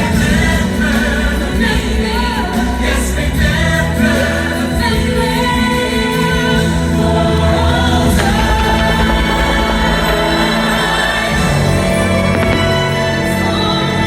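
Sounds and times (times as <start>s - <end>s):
music with voices singing: 0.0s - 14.0s.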